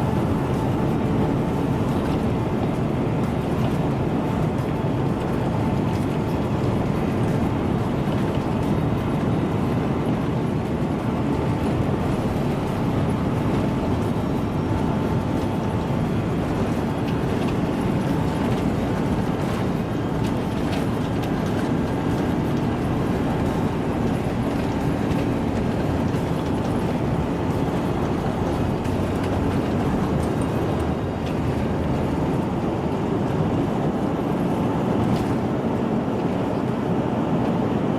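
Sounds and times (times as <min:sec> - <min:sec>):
airliner cabin engine rumble: 0:00.0 - 0:37.9.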